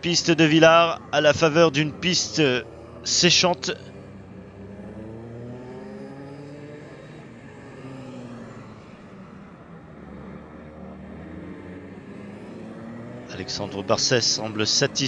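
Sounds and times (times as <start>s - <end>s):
racing kart engines: 0.0s - 15.0s.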